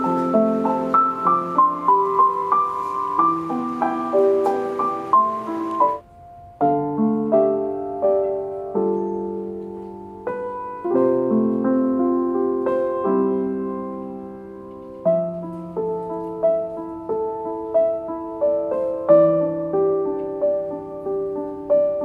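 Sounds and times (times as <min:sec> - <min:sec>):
slow solo piano music: 0:00.0 - 0:22.0.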